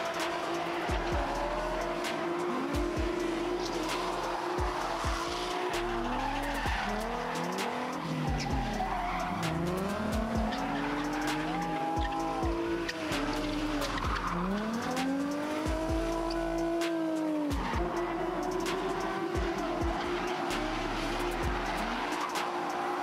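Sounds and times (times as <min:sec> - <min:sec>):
car engines revving: 0:00.0 - 0:23.0
tires squealing: 0:00.0 - 0:23.0.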